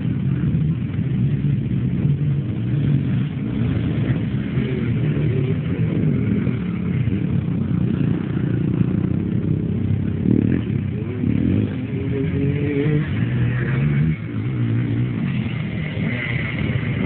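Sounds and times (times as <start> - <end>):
quad engine revving: 0.0 - 17.0.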